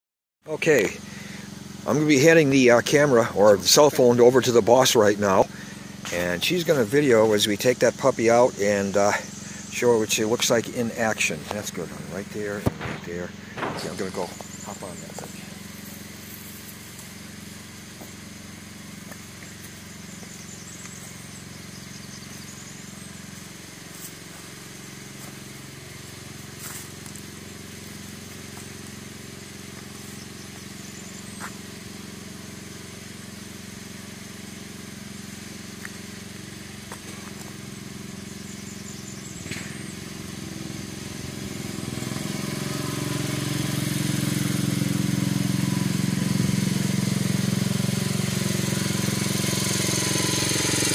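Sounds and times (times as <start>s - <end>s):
lawn tractor engine running: 0.5s - 50.9s.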